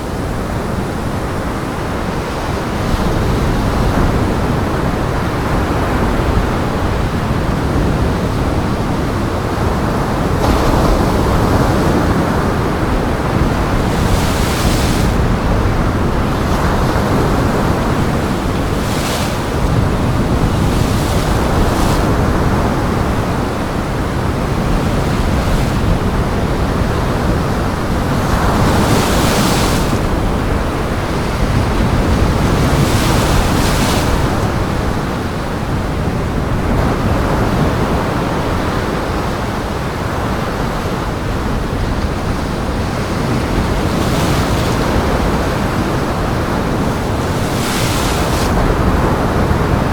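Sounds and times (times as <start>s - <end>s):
heavy surf churning: 0.0s - 49.9s
strong wind: 0.0s - 49.9s
waves breaking: 0.2s - 49.9s.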